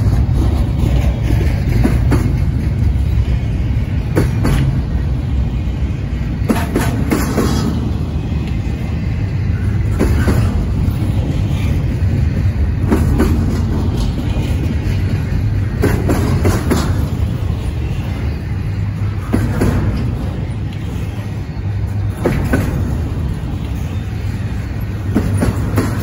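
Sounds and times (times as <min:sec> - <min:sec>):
train cars rumbling on rails: 0:00.0 - 0:26.0
wheels clacking over rail joints: 0:00.0 - 0:26.0.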